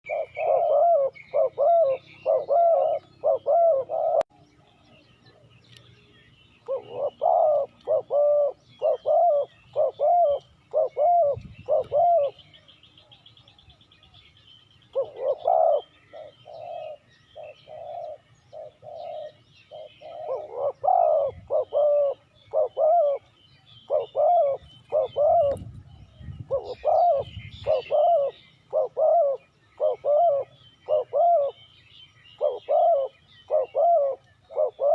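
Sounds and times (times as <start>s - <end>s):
doves cooing: 0.0s - 5.5s, 6.6s - 13.6s, 14.8s - 31.7s, 32.3s - 34.9s
small birds chirping: 0.0s - 34.9s.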